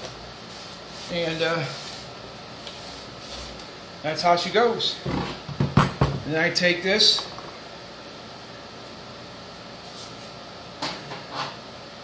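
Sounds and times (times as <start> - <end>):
air conditioner hiss: 0.0 - 12.0.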